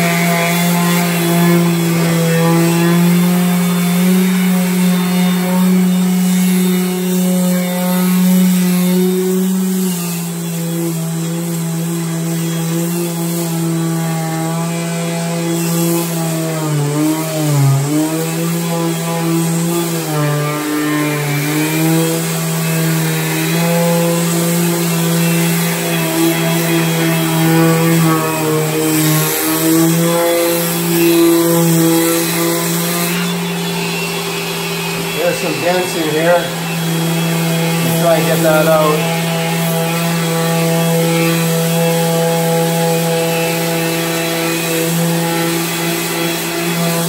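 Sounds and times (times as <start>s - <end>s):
electric sander humming: 0.0s - 47.0s.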